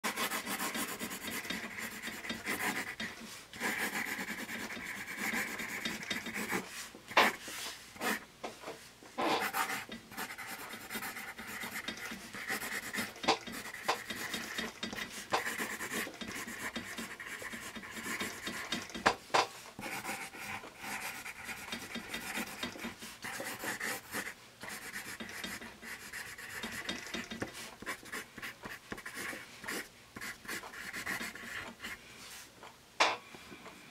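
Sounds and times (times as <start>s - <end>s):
pencil writing on paper: 0.0s - 7.4s, 8.0s - 8.2s, 9.2s - 19.0s, 19.8s - 32.0s.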